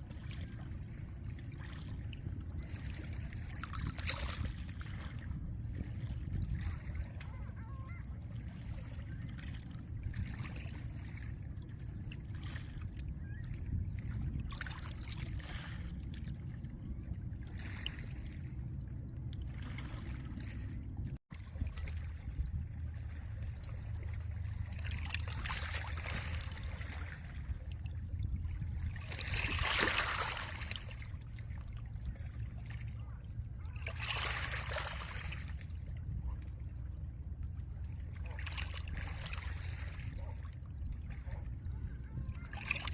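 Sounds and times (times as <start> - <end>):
low rumble of wind: 0.0 - 42.9.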